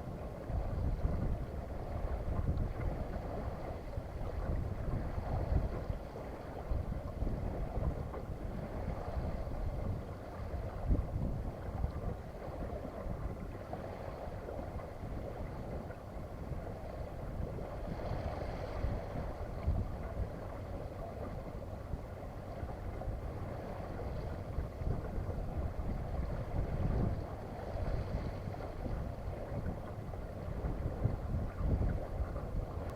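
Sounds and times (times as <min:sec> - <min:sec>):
water rushing along hull: 0:00.0 - 0:32.9
wind buffeting microphone: 0:00.0 - 0:32.9.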